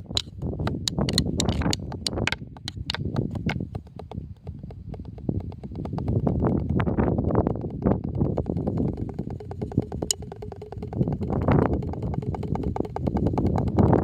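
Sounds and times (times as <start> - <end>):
hand drum strokes: 0.0 - 14.0
steady low rumble: 0.0 - 14.0.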